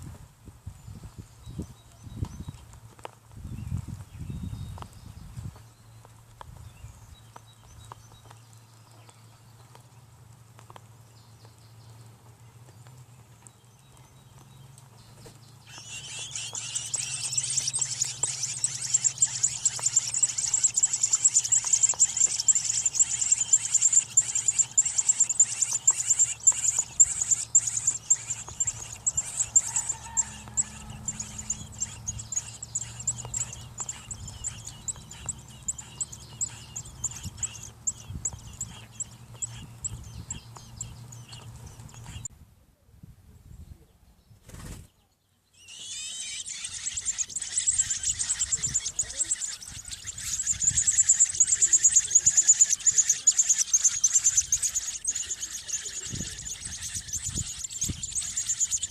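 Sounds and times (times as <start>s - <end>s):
nestlings peeping: 0.6s - 42.3s, 44.4s - 58.9s.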